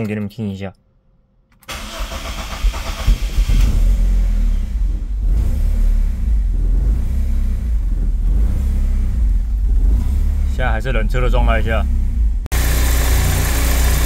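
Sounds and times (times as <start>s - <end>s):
car engine starting and idling: 1.6s - 14.0s.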